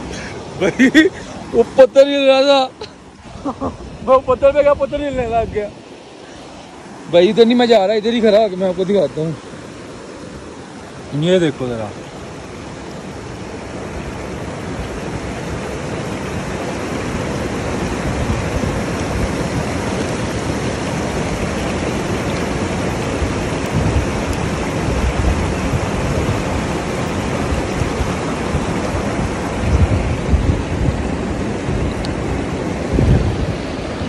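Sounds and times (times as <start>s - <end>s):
stream rushing over boulders: 0.0s - 34.0s.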